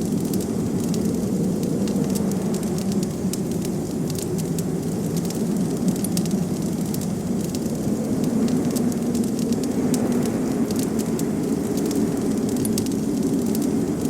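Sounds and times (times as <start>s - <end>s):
blizzard wind rushing: 0.0s - 14.0s
wood fire crackling and popping: 0.0s - 14.0s.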